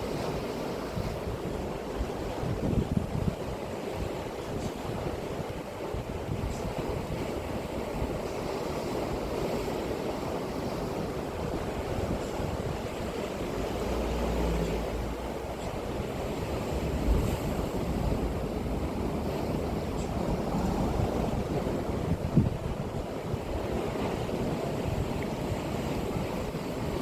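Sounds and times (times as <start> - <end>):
sea surf breaking: 0.0 - 27.0
wind buffeting microphone: 0.0 - 27.0.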